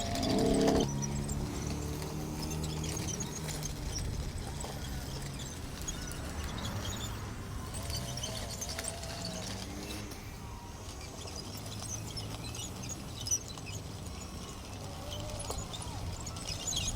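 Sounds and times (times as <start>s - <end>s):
toy bulldozer motor hum: 0.0s - 16.9s.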